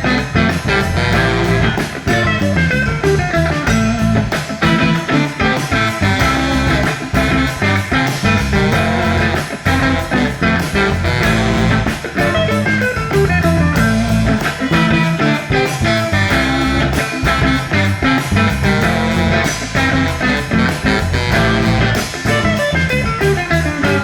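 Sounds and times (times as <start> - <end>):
bass guitar: 0.0 - 24.0
drum kit steady beat: 0.0 - 24.0
electric guitar melody: 0.0 - 24.0.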